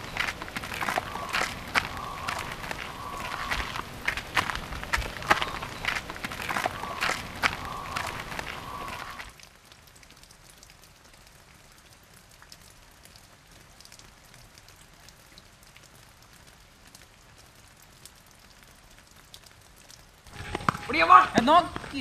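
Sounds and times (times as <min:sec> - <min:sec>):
light crackles and ticks: 0:00.0 - 0:22.0.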